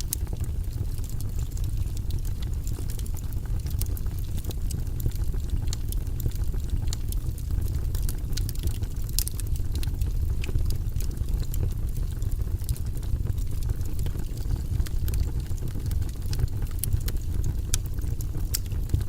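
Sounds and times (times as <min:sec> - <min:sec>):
fire burning: 0:00.0 - 0:19.0
fire crackling and popping: 0:00.0 - 0:19.0.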